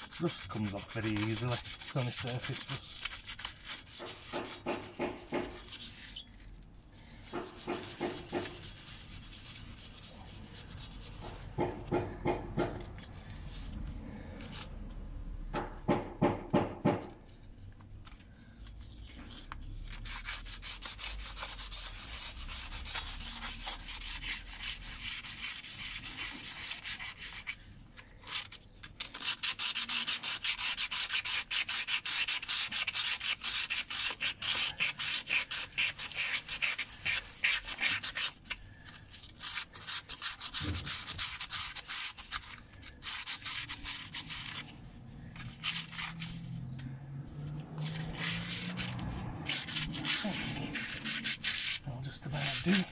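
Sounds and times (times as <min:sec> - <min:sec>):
sandpaper scratching metal: 0:00.0 - 0:06.3, 0:07.2 - 0:12.0, 0:18.9 - 0:27.6, 0:28.2 - 0:46.6, 0:47.5 - 0:52.9.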